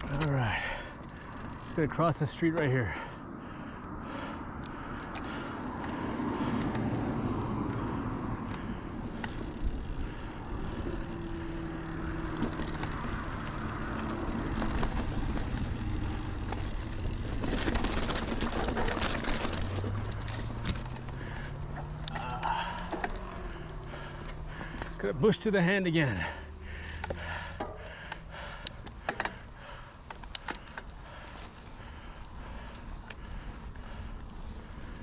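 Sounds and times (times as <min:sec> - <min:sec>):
car engines humming: 0:00.0 - 0:35.0.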